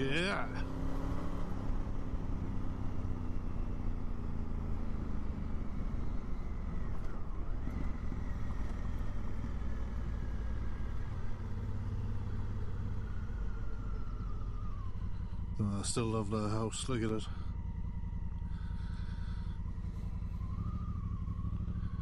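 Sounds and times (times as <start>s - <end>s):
motorcycle engine cruising: 0.0s - 22.0s
wind and road noise: 0.0s - 22.0s.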